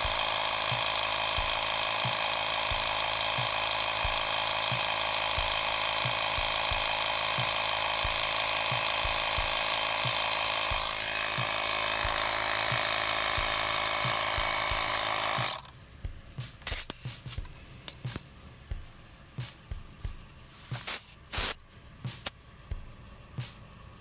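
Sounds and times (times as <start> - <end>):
tyre inflator running: 0.0 - 24.0.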